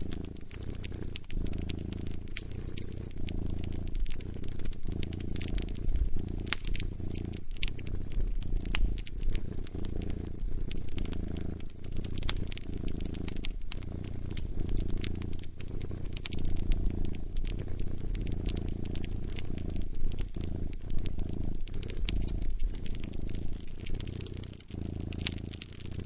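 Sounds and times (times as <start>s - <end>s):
cat purring: 0.0s - 26.0s
wood fire crackling and popping: 0.0s - 26.0s.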